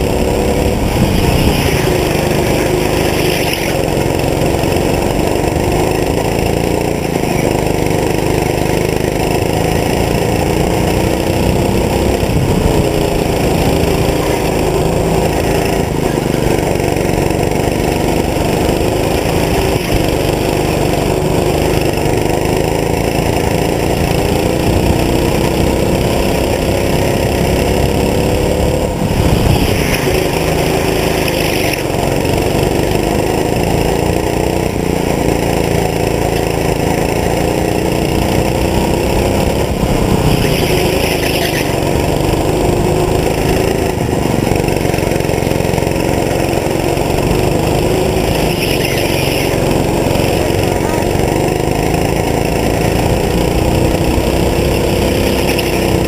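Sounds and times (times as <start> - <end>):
go-kart engine running: 0.0 - 56.0.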